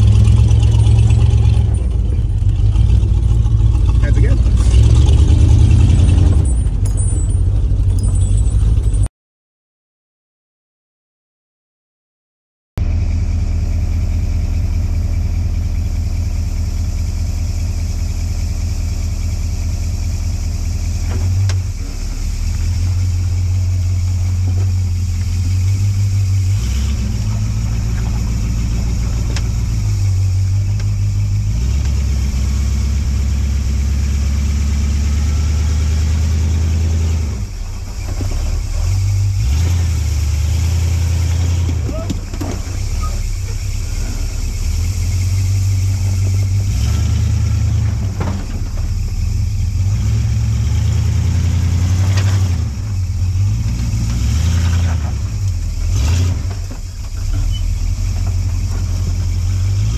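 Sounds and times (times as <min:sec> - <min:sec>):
off-road vehicle engine revving: 0:00.0 - 0:09.1, 0:12.8 - 0:59.9.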